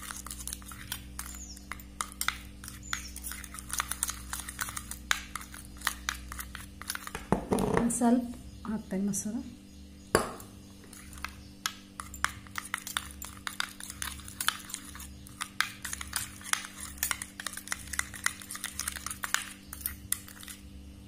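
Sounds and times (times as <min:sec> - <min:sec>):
spoon clinking and scraping bowl: 0:00.0 - 0:07.3, 0:10.2 - 0:20.7
low steady hum: 0:00.0 - 0:21.0.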